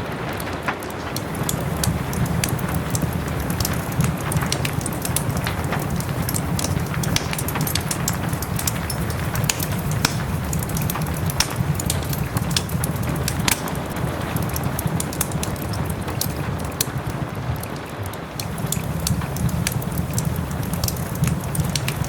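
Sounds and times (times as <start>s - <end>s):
soft rain falling: 0.0s - 22.0s
wood fire crackling and popping: 0.0s - 22.0s.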